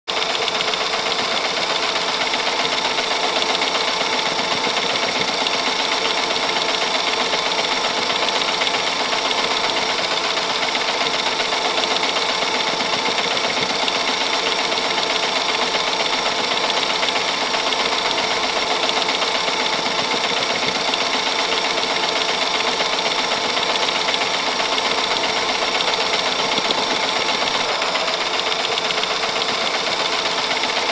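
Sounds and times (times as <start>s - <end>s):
film camera clatter and whir: 0.1s - 30.9s.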